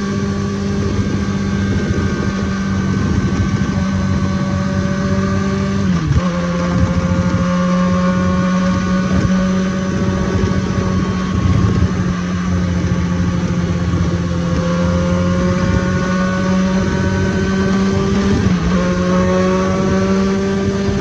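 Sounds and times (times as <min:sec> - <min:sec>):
motorcycle engine at speed: 0:00.0 - 0:21.0
wind rush: 0:00.0 - 0:21.0.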